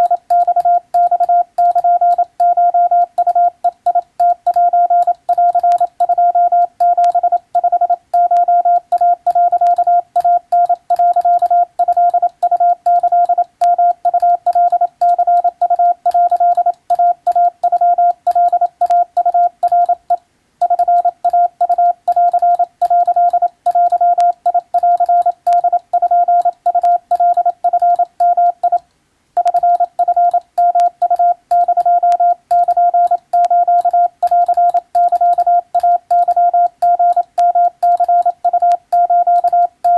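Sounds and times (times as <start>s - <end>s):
morse code beeps: 0.0s - 28.8s, 29.4s - 39.9s.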